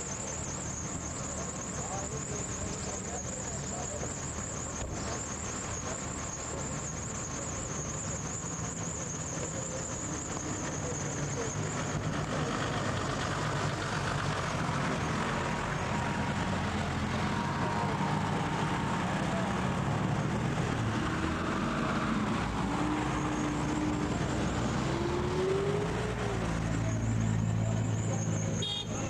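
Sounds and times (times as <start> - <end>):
car engines running: 0.0 - 29.0.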